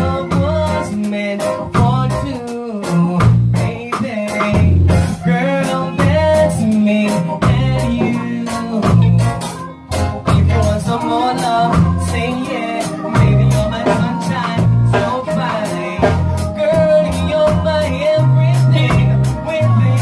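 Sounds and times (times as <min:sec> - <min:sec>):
man singing into microphone: 0:00.0 - 0:20.0
reggae band playing: 0:00.0 - 0:20.0.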